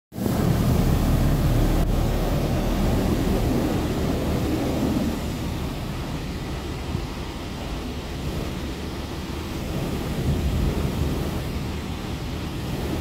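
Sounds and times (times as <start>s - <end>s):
deep rumble: 0.2s - 13.0s
water spray rushing: 0.2s - 13.0s.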